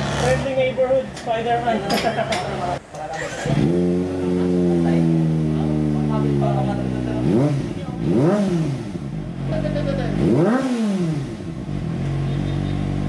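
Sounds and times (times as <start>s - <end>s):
motorcycle engine revving and idling: 0.0s - 1.7s, 3.0s - 13.0s.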